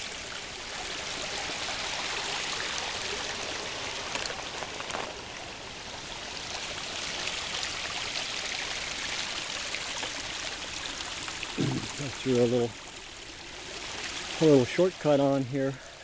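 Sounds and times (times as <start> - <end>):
brook water flowing: 0.0 - 16.0.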